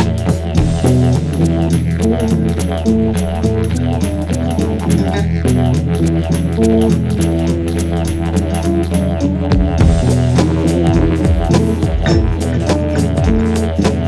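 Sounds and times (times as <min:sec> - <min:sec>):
didgeridoo drone: 0:00.0 - 0:14.0
plucked guitar melody: 0:00.0 - 0:14.0
rhythmic percussive hits: 0:00.0 - 0:14.0.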